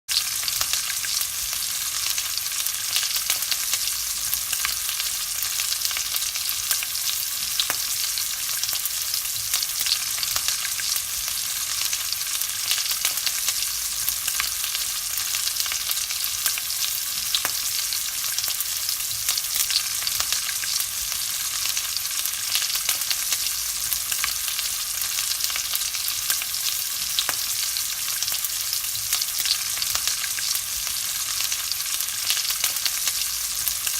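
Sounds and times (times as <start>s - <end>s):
bacon sizzling and crackling: 0.1s - 33.9s.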